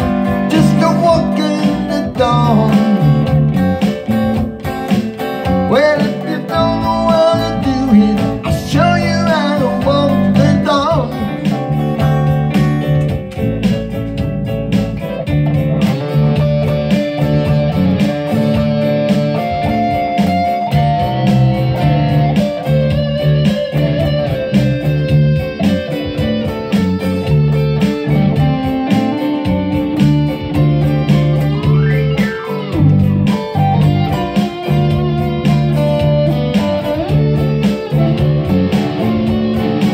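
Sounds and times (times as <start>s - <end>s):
electric guitar playing blues: 0.0s - 39.9s.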